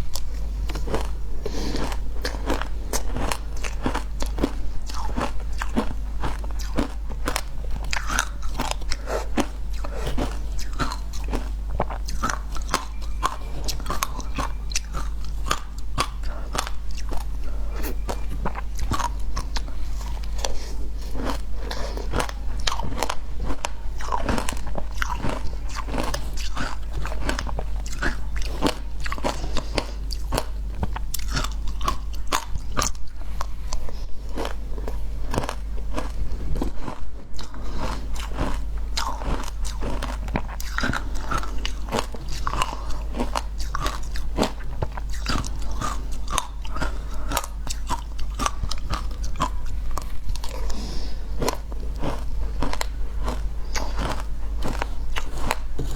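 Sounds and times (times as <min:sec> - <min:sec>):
ice being chewed: 0:00.0 - 0:55.9.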